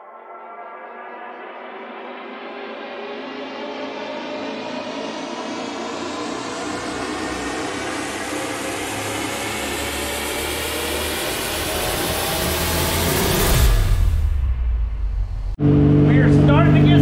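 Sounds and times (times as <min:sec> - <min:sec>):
motorcycle engine revving: 0:00.7 - 0:17.0.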